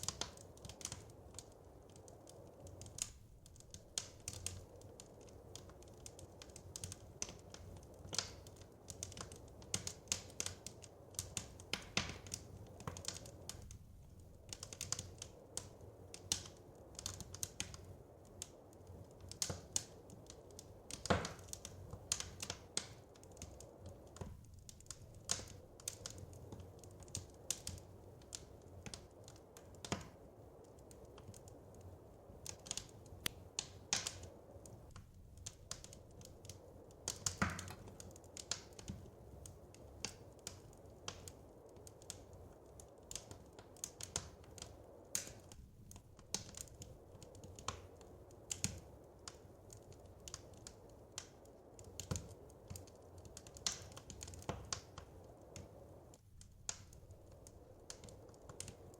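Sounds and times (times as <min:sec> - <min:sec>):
faint low hiss: 0:00.0 - 0:58.9
wood fire popping and snapping: 0:00.0 - 0:58.9.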